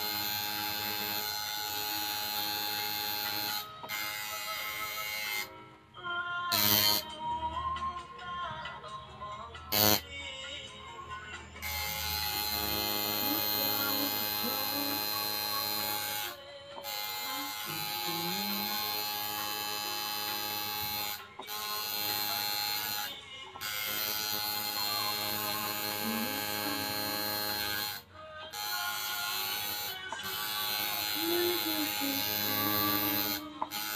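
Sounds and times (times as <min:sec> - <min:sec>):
tattoo machine buzzing: 0:00.0 - 0:05.6, 0:06.5 - 0:07.1, 0:09.7 - 0:10.0, 0:11.6 - 0:33.9.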